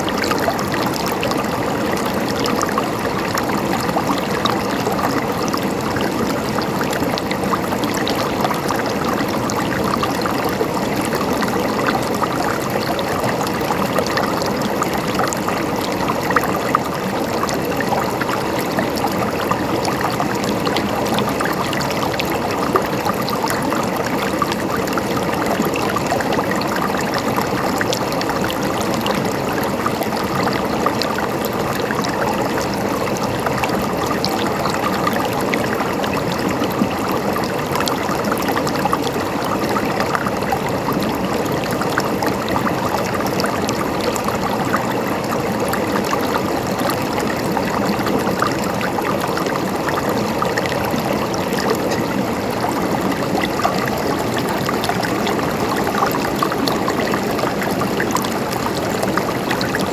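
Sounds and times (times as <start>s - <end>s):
mountain stream gurgling: 0.0s - 59.9s
water splashes and drips: 0.0s - 59.9s.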